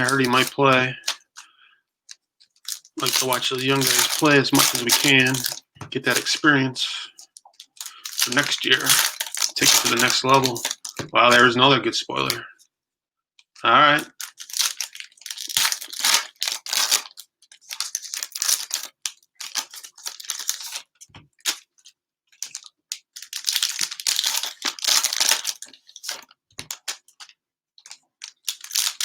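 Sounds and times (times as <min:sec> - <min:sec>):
plastic wrappers tearing and crinkling: 0:00.0 - 0:01.5, 0:02.6 - 0:06.4, 0:07.2 - 0:11.5, 0:14.0 - 0:21.7, 0:22.4 - 0:29.0.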